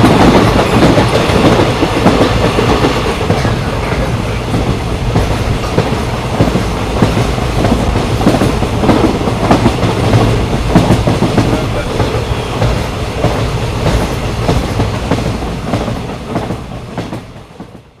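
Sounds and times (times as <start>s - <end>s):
train coaches rumbling: 0.0s - 18.0s.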